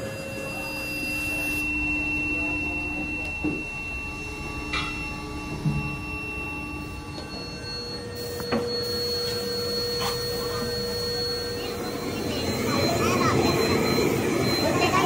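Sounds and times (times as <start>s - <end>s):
machine whine: 0.0s - 15.0s
workshop machinery hum and hiss: 0.0s - 15.0s.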